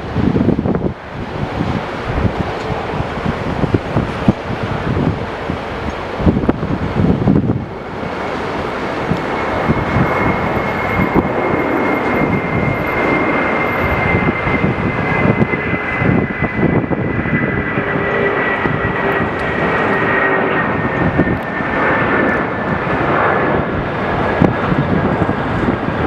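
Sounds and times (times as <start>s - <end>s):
jet engines whining: 0.0s - 26.0s
wind buffeting microphone: 0.0s - 26.0s.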